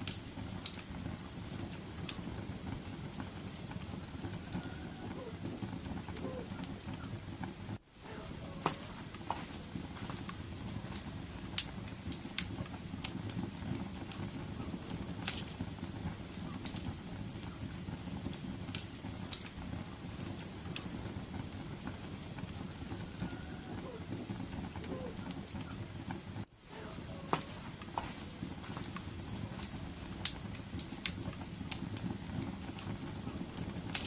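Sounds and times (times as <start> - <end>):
fire pops and snaps: 0.0 - 34.0
wood fire crackling: 0.0 - 34.0.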